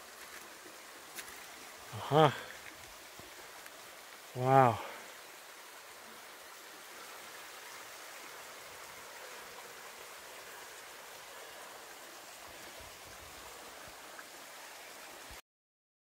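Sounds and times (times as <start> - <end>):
water trickling over rocks: 0.0 - 15.4.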